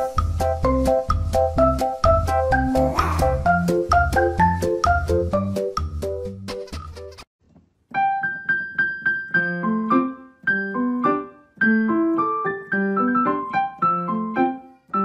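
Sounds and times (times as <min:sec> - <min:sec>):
piano melody: 0:00.0 - 0:06.4, 0:07.9 - 0:15.0.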